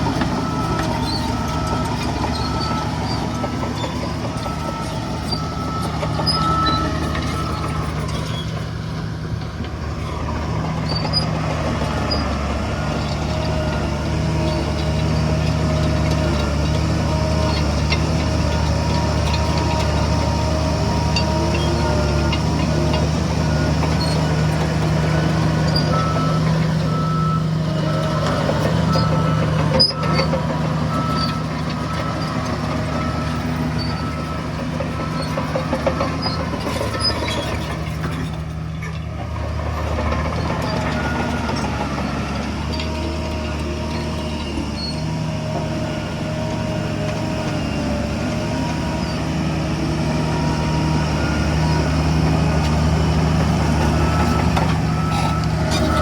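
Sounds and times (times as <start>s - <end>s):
reversing alarm beeping: 0.0s - 37.6s, 39.7s - 47.1s, 47.7s - 56.0s
heavy diesel machinery running: 0.0s - 56.0s.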